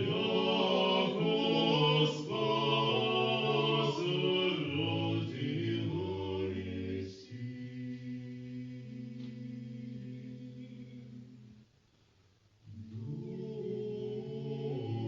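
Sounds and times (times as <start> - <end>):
choir singing a cappella: 0.0 - 11.6, 12.6 - 15.0.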